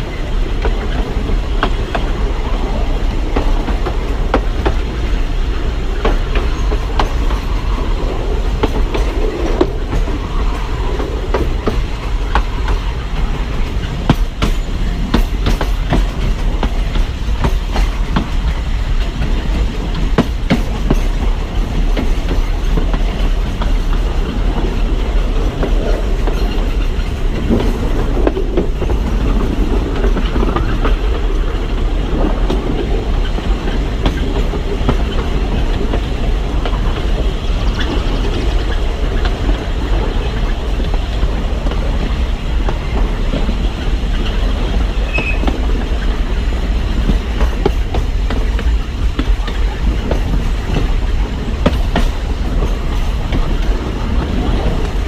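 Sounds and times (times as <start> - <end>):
train low rumble: 0.0 - 55.0
wheels clicking over rail joints: 0.0 - 55.0.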